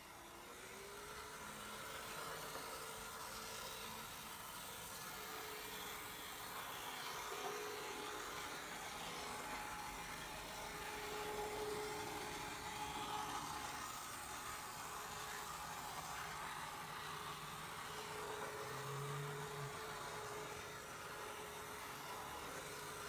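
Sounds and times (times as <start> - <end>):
small electric motor whirring: 0.0 - 23.0.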